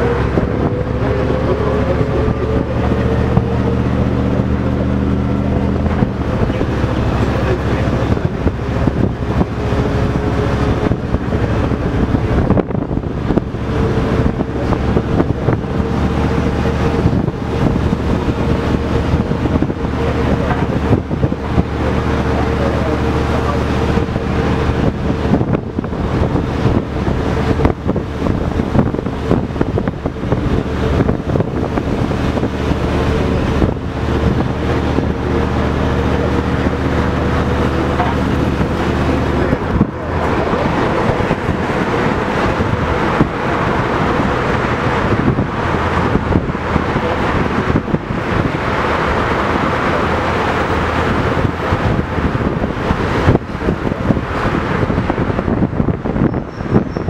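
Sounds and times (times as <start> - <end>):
bus engine running: 0.0 - 57.0
road noise: 0.0 - 57.0
wind noise: 0.0 - 57.0.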